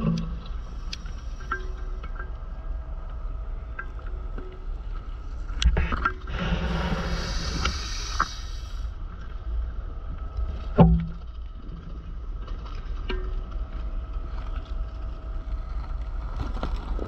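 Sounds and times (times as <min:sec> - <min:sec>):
low rumble of water: 0:00.0 - 0:17.0
regulator exhaust bubbles: 0:00.0 - 0:17.0.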